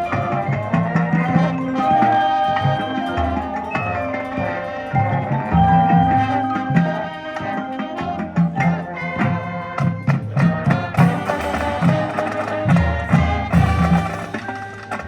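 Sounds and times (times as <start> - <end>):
brass chords: 0.0 - 15.0.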